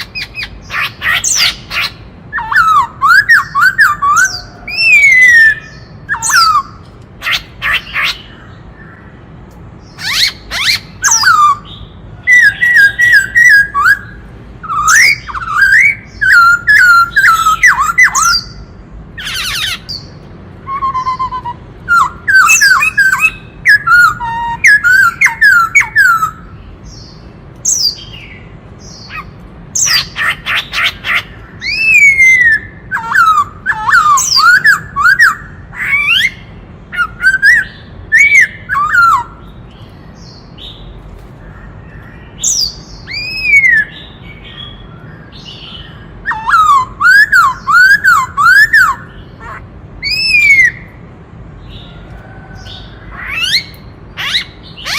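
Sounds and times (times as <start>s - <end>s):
bird whistled song: 0.0s - 9.1s, 9.8s - 41.0s, 41.8s - 51.0s, 52.6s - 54.9s
bird harsh call: 0.0s - 39.5s, 40.2s - 51.0s, 51.7s - 54.9s.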